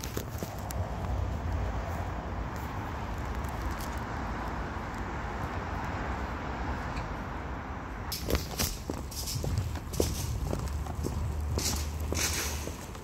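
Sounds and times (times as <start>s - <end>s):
distant traffic hum: 0.0s - 13.0s
wind rumbling on microphone: 0.0s - 13.0s.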